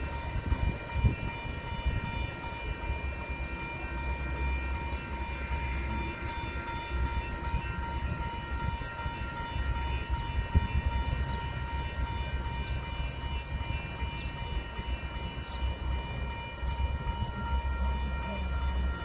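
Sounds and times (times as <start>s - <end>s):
high-pitched whining tones: 0.0s - 19.0s
train rumble: 0.0s - 19.0s.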